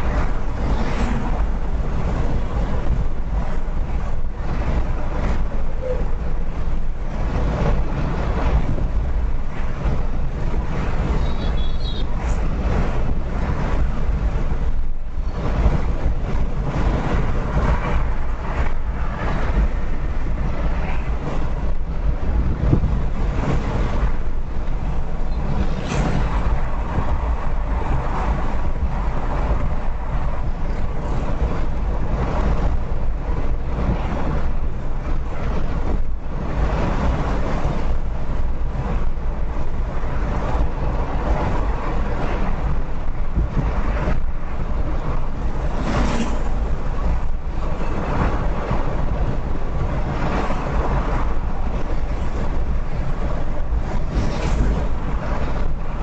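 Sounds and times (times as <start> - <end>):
car road and wind rumble: 0.0 - 56.0.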